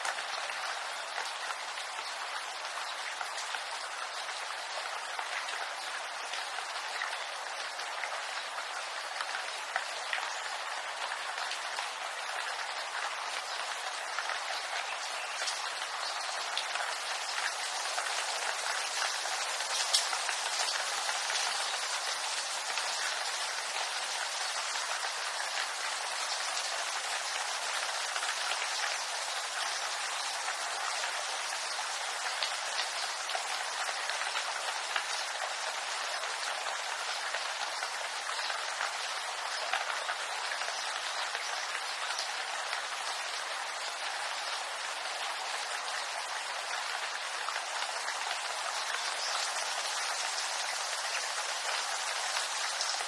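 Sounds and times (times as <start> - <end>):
rain pattering on leaves: 0.0 - 53.0.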